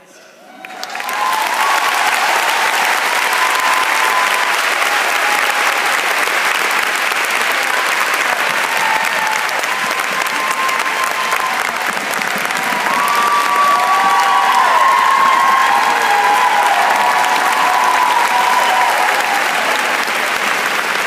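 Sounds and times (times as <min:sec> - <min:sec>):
large audience applauding: 0:00.5 - 0:21.0.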